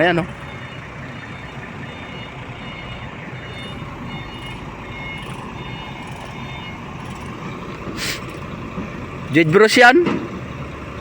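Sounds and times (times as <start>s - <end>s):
backup alarm beeping: 0.0s - 9.4s
heavy diesel machinery running: 0.0s - 11.0s.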